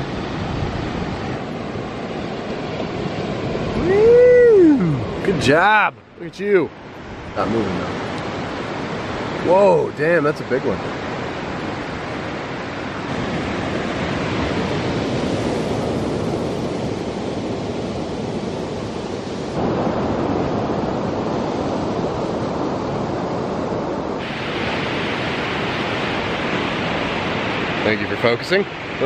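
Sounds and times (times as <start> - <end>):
ocean surf on beach: 0.0 - 29.0.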